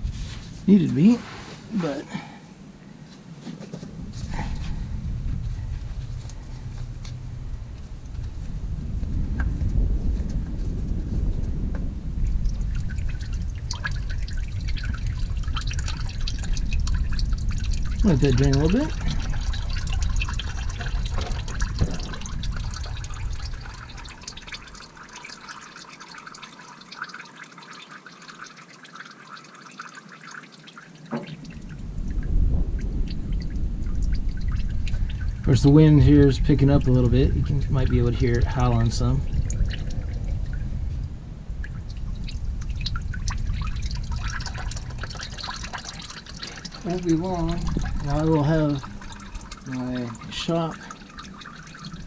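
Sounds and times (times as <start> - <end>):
low rumble: 0.0 - 25.0, 31.3 - 52.0
wind buffeting microphone: 0.0 - 25.1, 31.2 - 52.0
oil pouring and splattering: 3.7 - 52.0.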